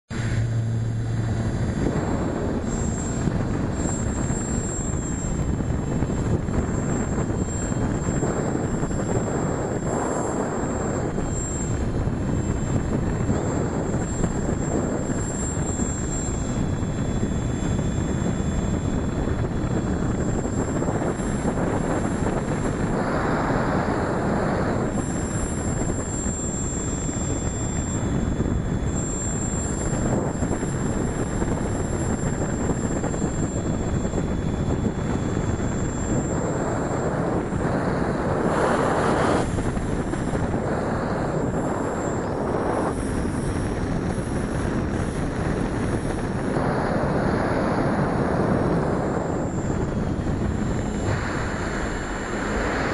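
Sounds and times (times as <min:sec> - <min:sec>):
faint high whine: 0:00.0 - 0:52.9
rushing airflow: 0:00.1 - 0:52.9.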